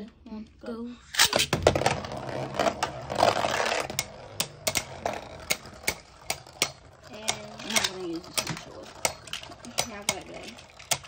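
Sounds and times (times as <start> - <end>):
spinning tops grinding together: 1.4 - 11.0
spinning tops whirring: 1.4 - 11.0.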